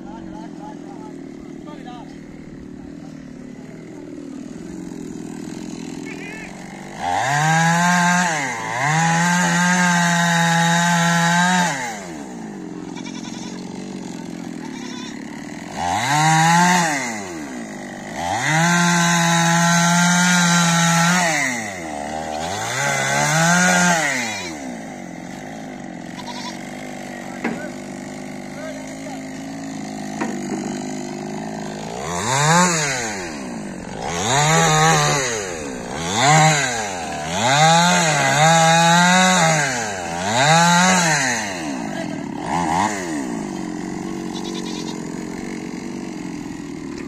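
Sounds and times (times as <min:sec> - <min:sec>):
chainsaw revving: 0:00.0 - 0:47.0.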